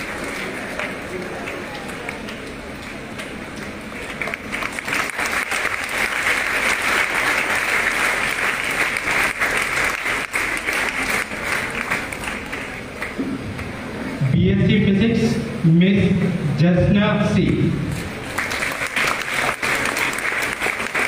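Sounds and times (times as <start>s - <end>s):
audience clapping: 0.0s - 13.9s, 17.4s - 21.0s.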